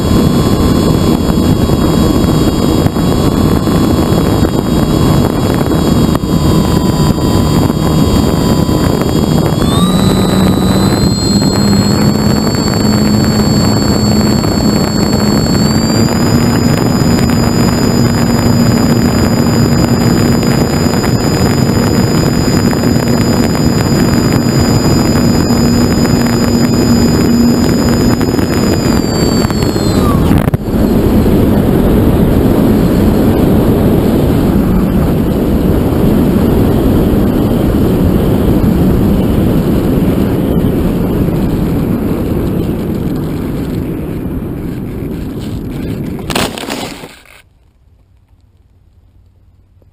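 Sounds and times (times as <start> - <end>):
propeller motor whine: 0.0 - 47.5
wind rushing over camera: 0.0 - 49.9.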